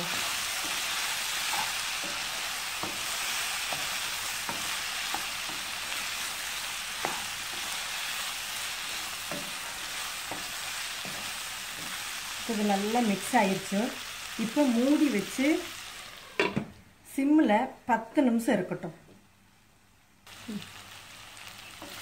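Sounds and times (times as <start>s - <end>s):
spatula stirring vegetables: 0.0s - 16.0s, 20.3s - 22.0s
vegetables sizzling in oil: 0.0s - 16.7s, 20.2s - 22.0s.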